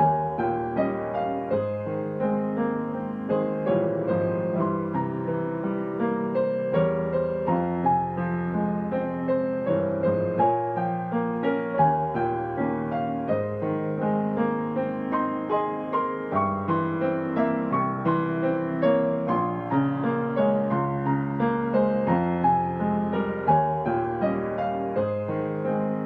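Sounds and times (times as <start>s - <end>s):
slow digital piano piece: 0.0s - 26.0s.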